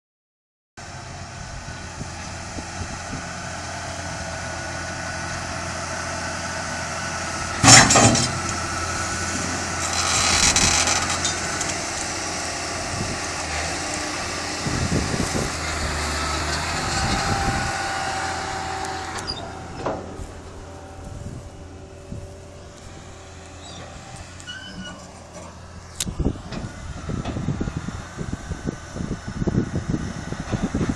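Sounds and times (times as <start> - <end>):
tractor diesel engine running: 0.8 - 30.9.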